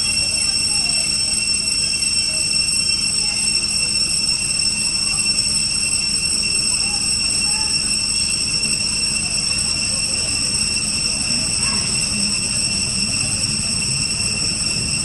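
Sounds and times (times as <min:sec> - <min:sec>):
high-pitched whine: 0:00.0 - 0:15.0.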